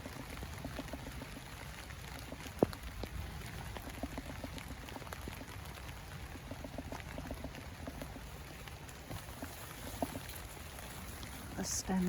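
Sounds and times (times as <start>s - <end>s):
heavy rain: 0.0s - 12.0s
raindrops ticking: 0.0s - 12.0s.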